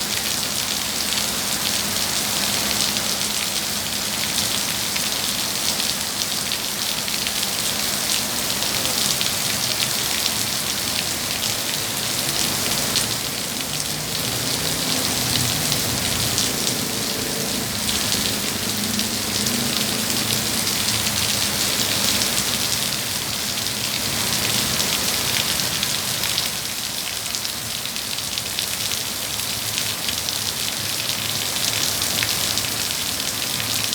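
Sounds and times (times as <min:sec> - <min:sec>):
heavy rain pattering: 0:00.0 - 0:33.9.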